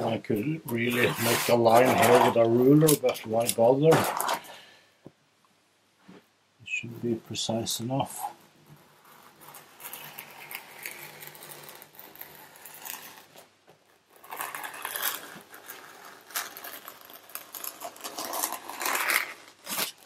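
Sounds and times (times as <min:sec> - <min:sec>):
scraping and rasping foam: 0:00.0 - 0:04.5, 0:06.9 - 0:20.0.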